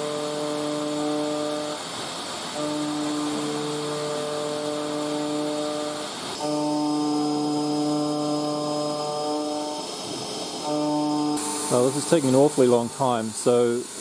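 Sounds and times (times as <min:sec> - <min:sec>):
router spindle cutting metal: 0:00.0 - 0:13.2.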